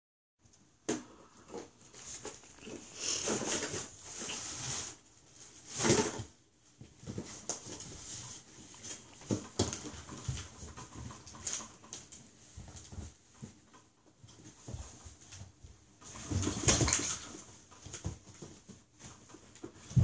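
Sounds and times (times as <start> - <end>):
rustling and knocking of toys: 0.4 - 20.0.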